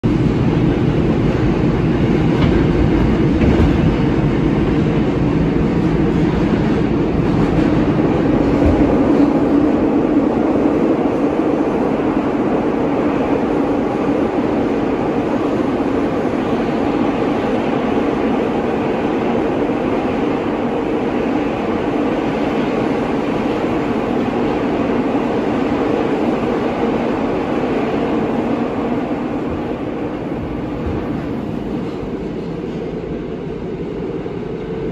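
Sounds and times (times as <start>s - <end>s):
subway car running on rails: 0.0s - 34.9s.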